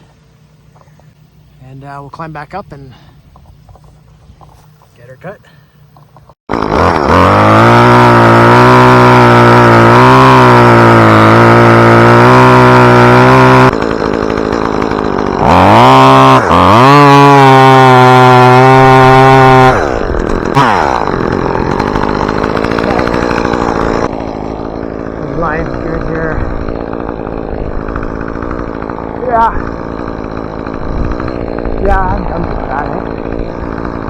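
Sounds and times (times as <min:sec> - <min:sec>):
chainsaw revving: 0:06.5 - 0:34.0.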